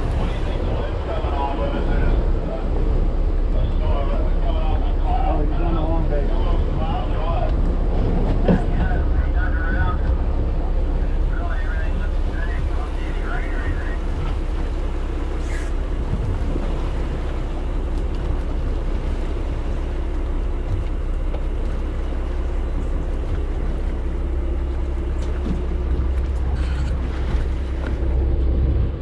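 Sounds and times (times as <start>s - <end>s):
boat engine running: 0.0s - 29.0s
wind buffeting microphone: 0.0s - 29.0s.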